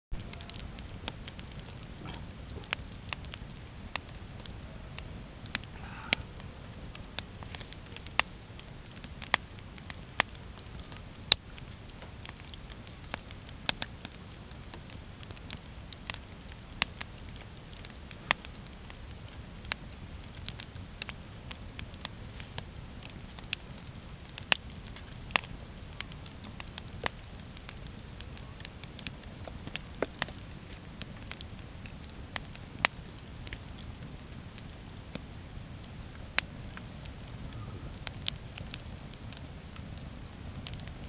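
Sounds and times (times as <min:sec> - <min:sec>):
bonfire crackling and popping: 0:00.1 - 0:41.0.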